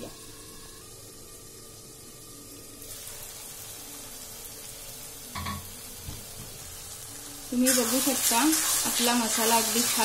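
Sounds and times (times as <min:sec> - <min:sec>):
masala sizzling in a pan: 0:00.0 - 0:10.0.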